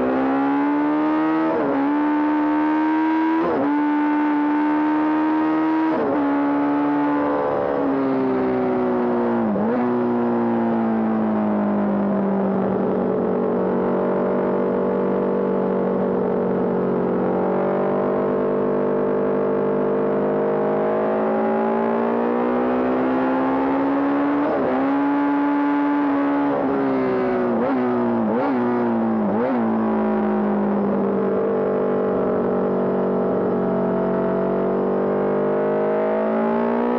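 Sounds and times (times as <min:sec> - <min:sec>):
motorcycle engine racing: 0:00.0 - 0:36.9.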